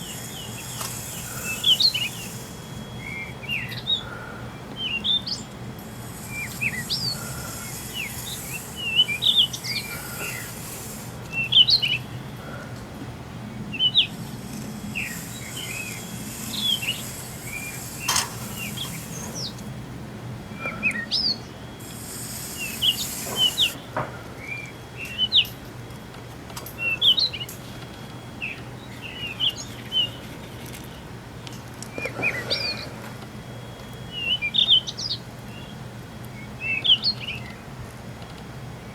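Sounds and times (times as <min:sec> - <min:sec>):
small birds chirping: 0:00.0 - 0:12.6, 0:13.5 - 0:19.7, 0:20.6 - 0:23.8, 0:24.4 - 0:25.6, 0:26.7 - 0:31.1, 0:31.8 - 0:33.0, 0:33.6 - 0:37.8.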